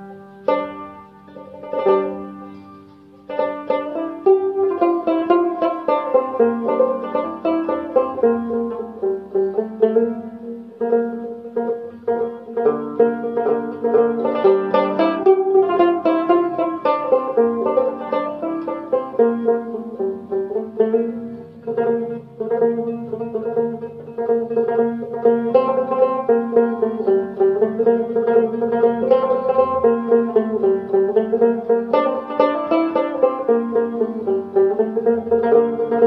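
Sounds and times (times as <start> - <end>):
plucked lute melody: 0.0 - 36.0.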